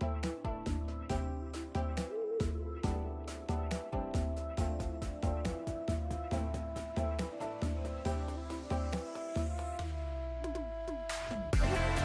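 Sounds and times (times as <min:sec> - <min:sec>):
electronic music with bass: 0:00.0 - 0:12.0.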